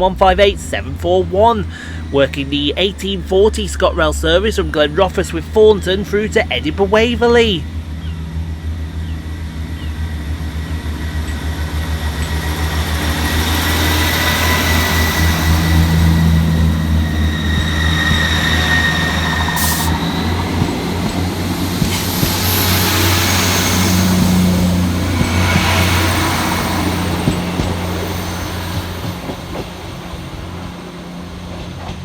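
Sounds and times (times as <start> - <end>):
diesel train engines droning: 0.0 - 32.0.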